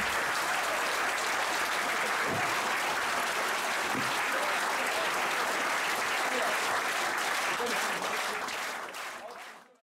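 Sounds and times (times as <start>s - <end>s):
audience clapping: 0.0s - 9.8s.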